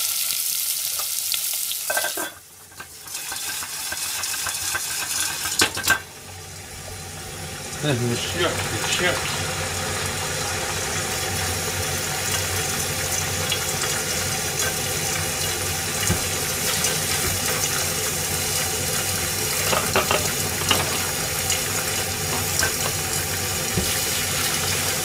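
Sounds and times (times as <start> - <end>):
oil popping and crackling: 0.0 - 6.1, 7.7 - 25.0
oil sizzling in saucepan: 0.0 - 25.0.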